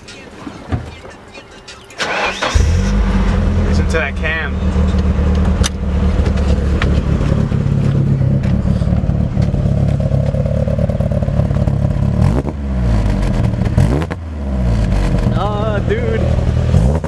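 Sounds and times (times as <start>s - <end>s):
car engine idling with throttle blip: 0.0s - 17.0s.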